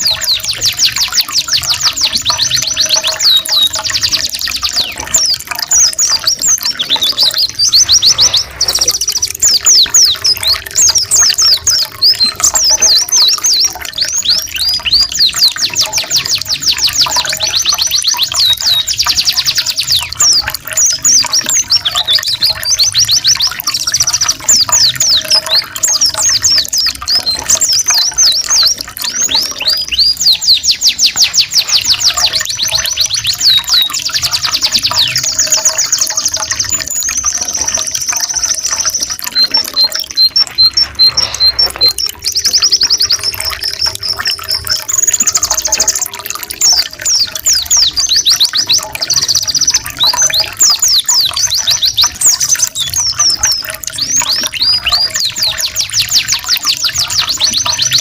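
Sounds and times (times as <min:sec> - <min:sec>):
songbirds trilling: 0:00.0 - 0:58.0
trickle of running water: 0:00.0 - 0:58.0.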